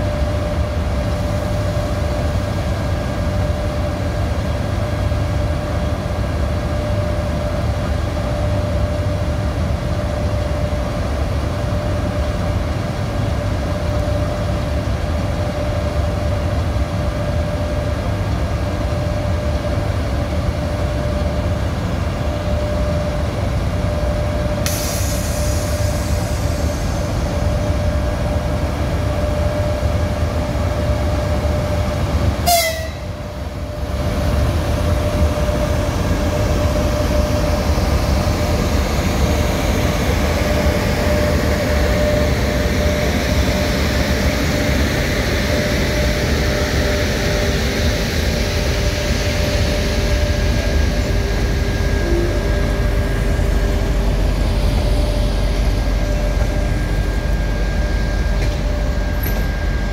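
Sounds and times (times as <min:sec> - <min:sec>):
constant whine: 0:00.0 - 0:59.9
train wheels rumbling: 0:00.0 - 0:59.9.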